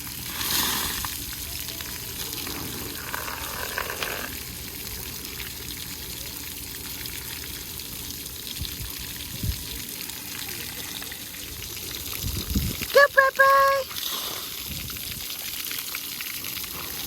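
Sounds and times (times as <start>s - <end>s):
running water splashing: 0.0s - 17.0s.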